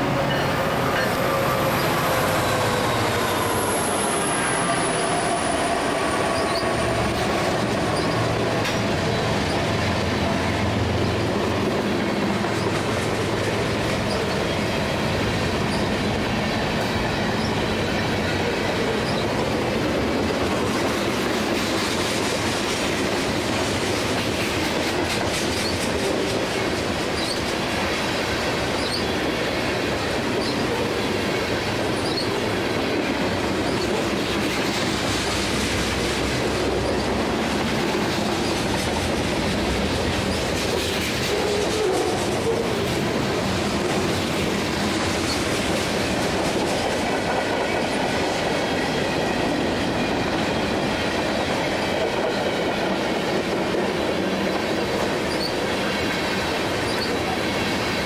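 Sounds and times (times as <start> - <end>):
locomotive engine hum: 0.0 - 21.6, 22.5 - 51.8.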